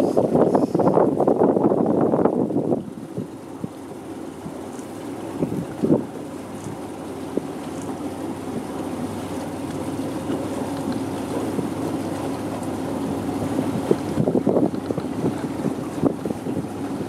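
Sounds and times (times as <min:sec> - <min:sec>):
boat motor running: 0:00.0 - 0:17.0
wind rumbling on microphone: 0:00.0 - 0:17.0.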